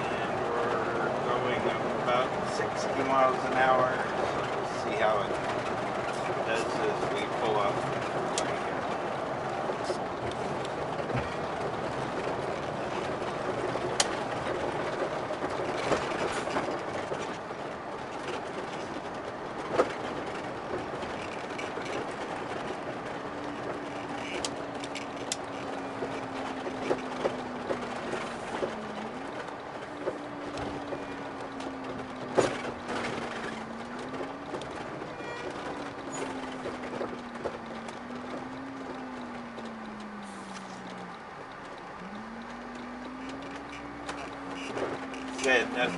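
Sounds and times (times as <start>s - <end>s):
interior rattles: 0.0s - 45.9s
road noise: 0.0s - 45.9s
sharp clicks and knocks: 1.4s - 45.9s.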